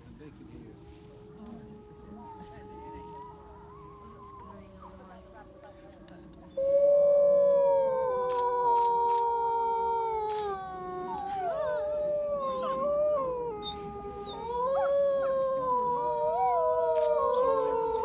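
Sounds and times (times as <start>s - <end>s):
wolves howling in chorus: 0.5s - 18.0s.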